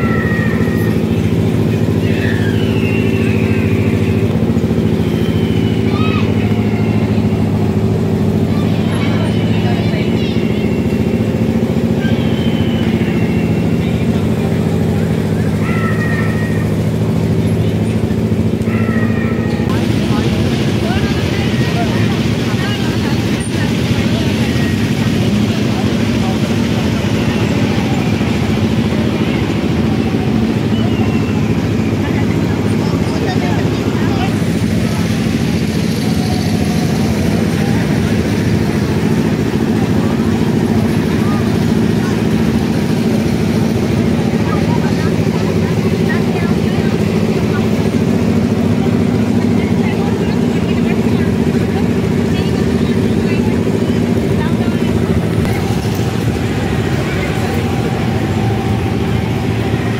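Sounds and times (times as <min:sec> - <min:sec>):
steady engine-like drone: 0:00.0 - 0:59.9.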